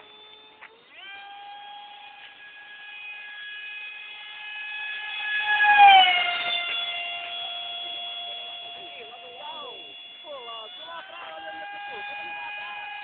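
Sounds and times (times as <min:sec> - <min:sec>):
model jet high whine: 0:00.0 - 0:13.0.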